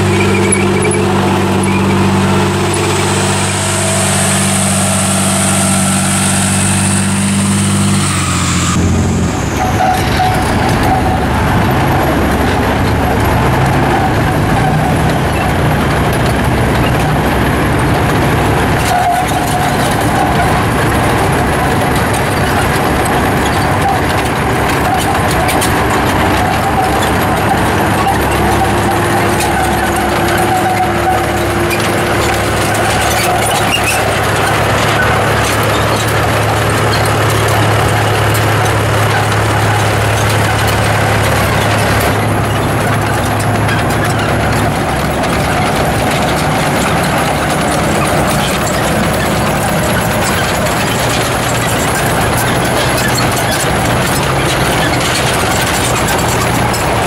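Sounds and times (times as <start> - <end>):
heavy tank engine running rough: 0.0 - 57.0
tank diesel engine running: 0.0 - 57.0
tank tracks driving: 0.0 - 57.0.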